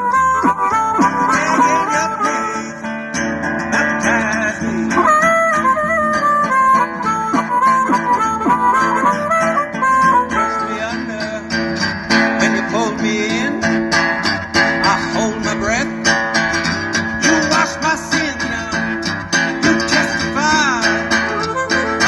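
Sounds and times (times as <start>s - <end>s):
acoustic guitar strumming blues: 0.0s - 22.0s.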